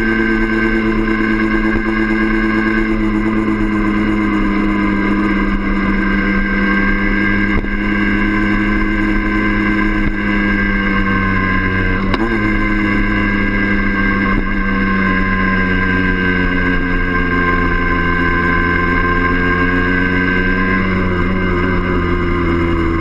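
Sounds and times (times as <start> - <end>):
two-stroke motorcycle engine droning: 0.0 - 23.0.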